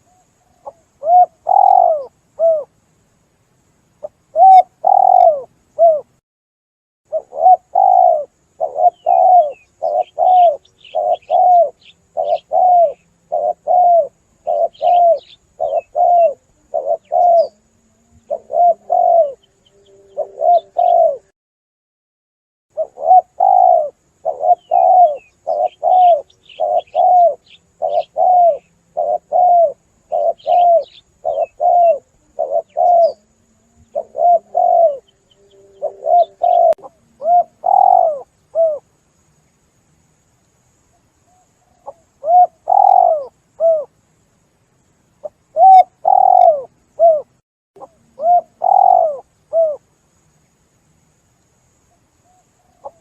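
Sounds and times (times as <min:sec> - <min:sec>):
dove cooing: 0:00.0 - 0:02.7, 0:04.0 - 0:06.1, 0:07.1 - 0:21.3, 0:22.7 - 0:38.9, 0:41.3 - 0:43.9, 0:45.2 - 0:49.8, 0:52.2 - 0:53.0
faint high bird chirps: 0:00.0 - 0:02.7, 0:04.0 - 0:06.1, 0:07.1 - 0:21.3, 0:22.7 - 0:38.8, 0:40.9 - 0:43.9, 0:45.2 - 0:49.8.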